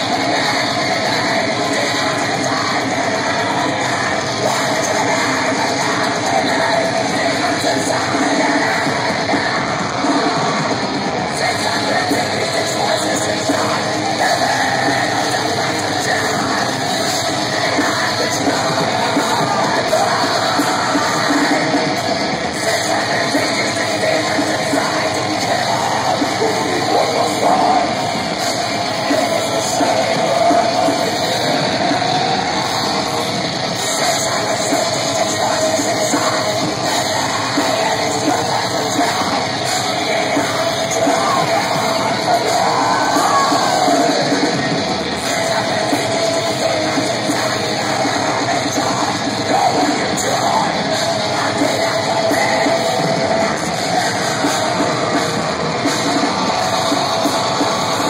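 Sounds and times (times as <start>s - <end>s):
distorted electric guitars: 0.0s - 58.0s
drum kit: 0.0s - 58.0s
harsh yelled vocal: 0.0s - 58.0s.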